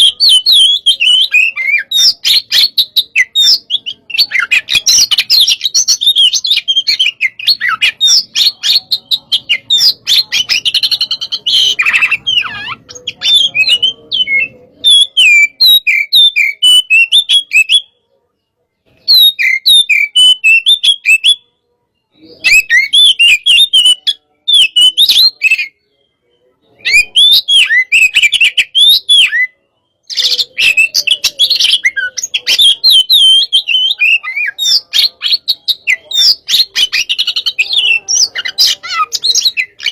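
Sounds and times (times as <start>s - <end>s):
magpie-robin singing: 0.0s - 18.1s, 18.8s - 39.9s.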